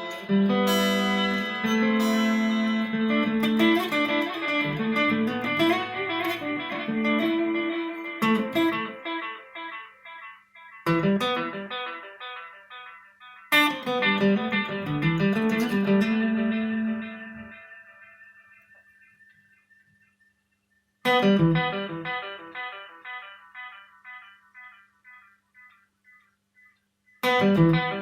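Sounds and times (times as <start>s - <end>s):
guitar with tape echo: 0.0s - 20.1s, 21.0s - 28.0s.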